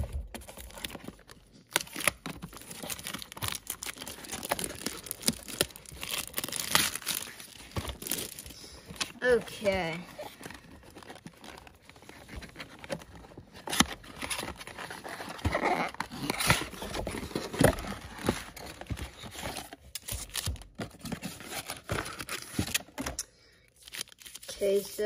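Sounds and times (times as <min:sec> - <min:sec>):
cardboard scraping and rustling: 0:00.0 - 0:23.2
foil packs tapping and clicking: 0:00.0 - 0:23.3.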